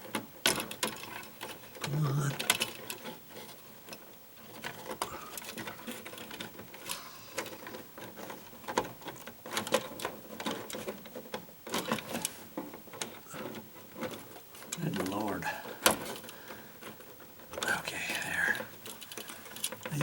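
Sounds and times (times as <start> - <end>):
wires clicking and scraping: 0.0 - 20.0.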